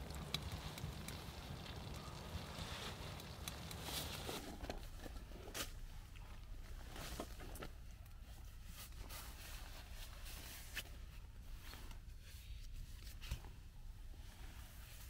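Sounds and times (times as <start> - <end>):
low steady rumble: 0.0 - 15.0
clothing and gear rustling: 2.2 - 15.0.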